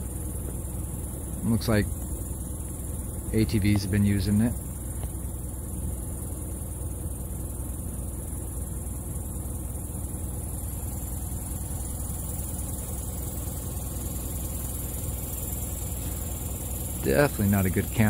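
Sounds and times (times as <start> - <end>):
even high hiss: 0.0 - 18.0
vehicle engine idling: 0.0 - 18.0.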